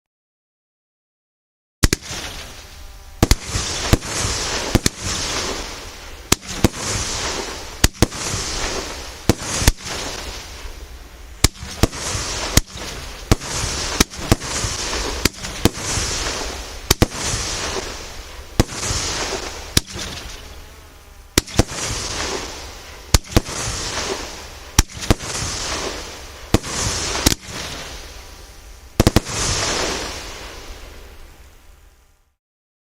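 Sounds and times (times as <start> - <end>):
fireworks bangs: 1.8 - 31.4
hissing crackle: 1.8 - 32.4.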